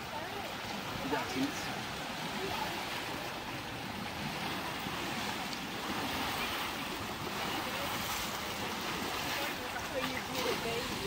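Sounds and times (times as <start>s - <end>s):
river current rushing: 0.0s - 11.0s.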